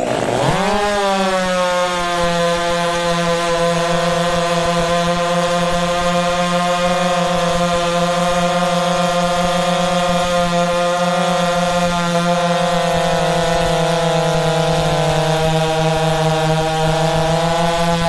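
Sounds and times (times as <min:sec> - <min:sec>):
chainsaw cutting log at full throttle: 0:00.0 - 0:18.0.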